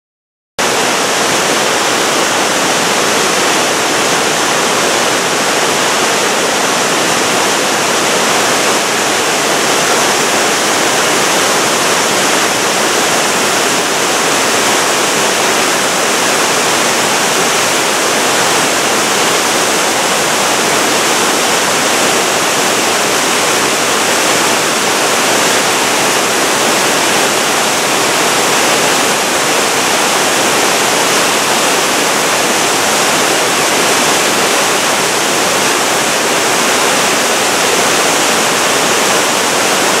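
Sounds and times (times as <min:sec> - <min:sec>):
waterfall rushing: 0:00.6 - 0:40.0.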